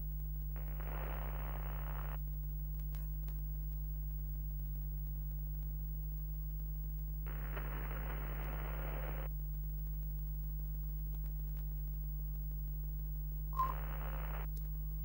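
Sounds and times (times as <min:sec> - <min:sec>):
low electrical hum: 0:00.0 - 0:15.0
static crackle: 0:00.0 - 0:15.0.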